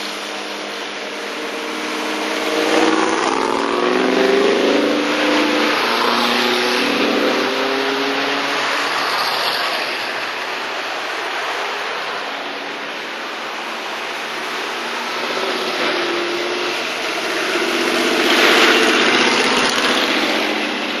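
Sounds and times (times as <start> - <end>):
car engines driving by: 0.0 - 21.0.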